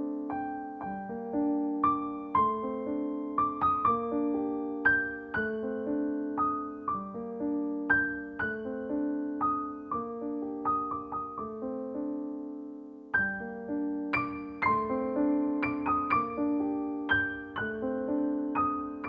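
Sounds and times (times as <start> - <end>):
slow solo piano music: 0.0 - 19.0.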